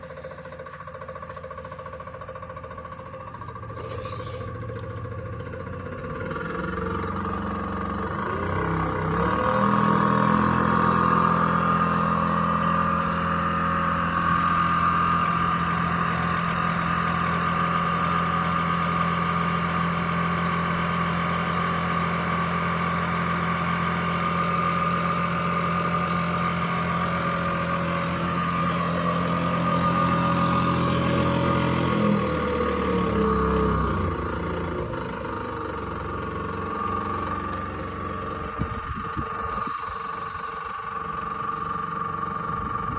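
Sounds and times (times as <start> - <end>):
motor and gearbox humming: 0.0 - 42.9.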